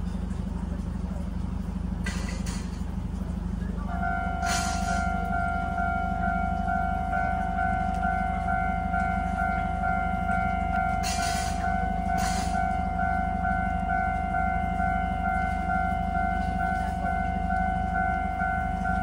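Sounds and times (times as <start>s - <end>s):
level crossing warning bell: 0.0s - 19.0s.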